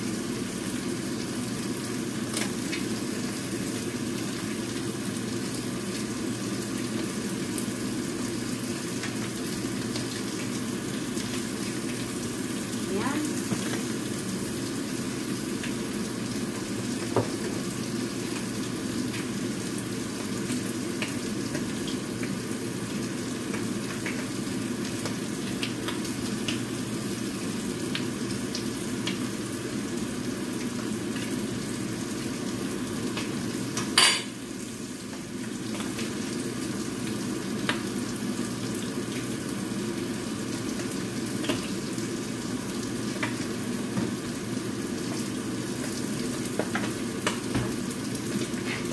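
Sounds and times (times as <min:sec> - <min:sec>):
pancake sizzling in a pan: 0:00.0 - 0:48.9.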